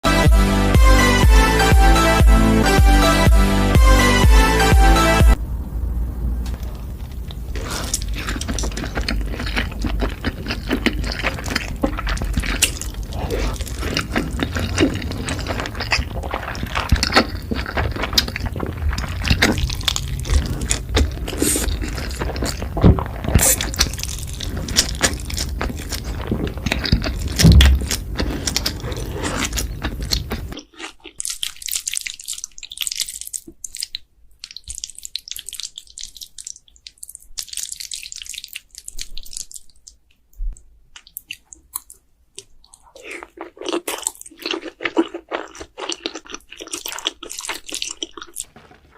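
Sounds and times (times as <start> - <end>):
wet chewing and slurping: 6.5 - 48.9.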